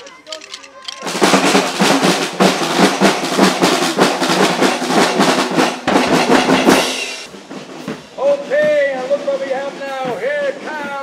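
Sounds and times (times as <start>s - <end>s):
fast snare and bass drumming: 1.0s - 11.0s.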